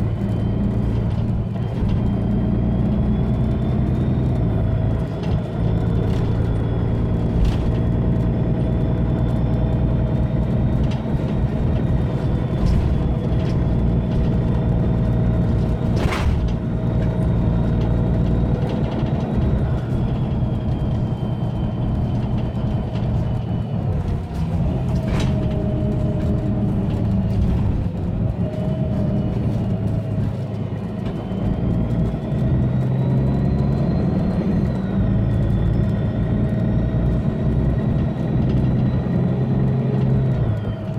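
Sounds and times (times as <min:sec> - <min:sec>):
diesel bus engine hum: 0:00.0 - 0:40.9.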